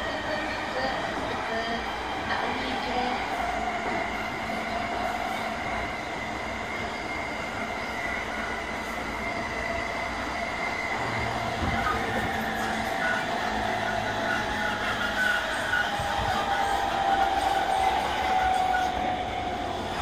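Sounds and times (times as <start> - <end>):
wheels rumbling on rail: 0.0 - 20.0
train motor whine: 2.3 - 20.0.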